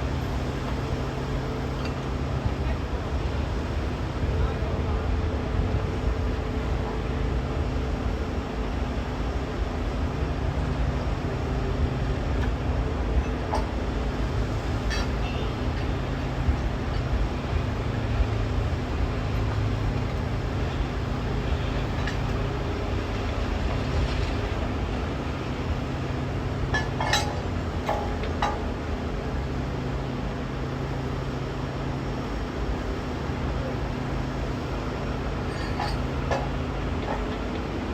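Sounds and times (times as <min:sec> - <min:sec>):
large engine running: 0:00.0 - 0:37.9.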